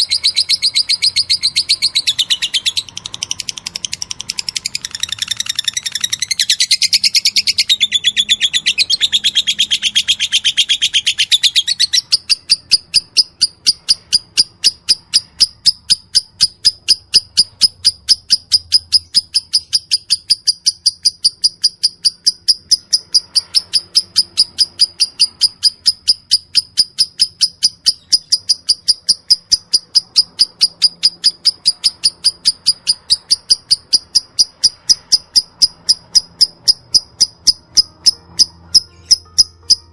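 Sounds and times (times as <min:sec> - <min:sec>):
lovebird high chattering: 0:00.0 - 0:39.9.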